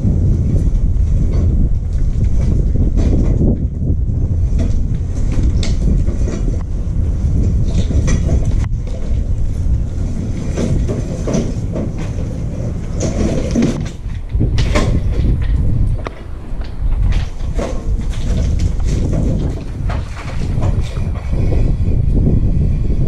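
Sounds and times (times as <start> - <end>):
cutter wheel grinding stump: 0.4 - 22.0.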